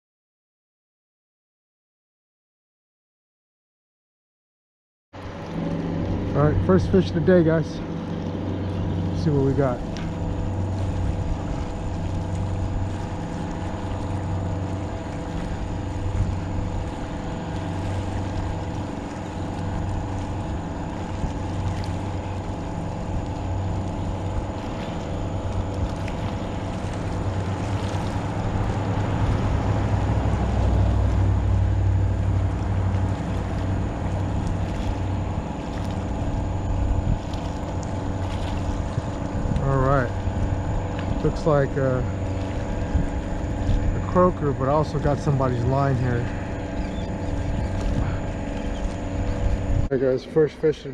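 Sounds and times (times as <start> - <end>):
boat engine droning: 5.2 - 50.9.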